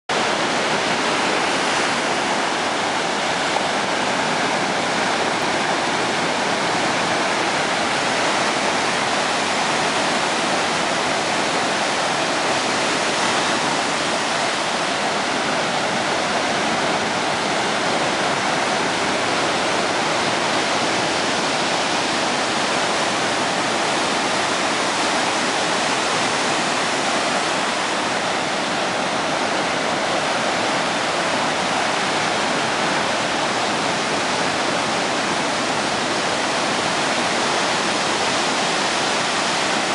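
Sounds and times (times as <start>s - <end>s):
ocean surf breaking: 0.1s - 39.9s.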